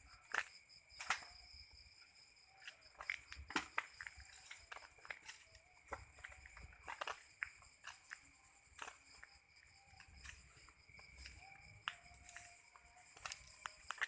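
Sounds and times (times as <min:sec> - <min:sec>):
night insects chorus: 0:00.0 - 0:14.0
faint footsteps walking: 0:02.6 - 0:14.0.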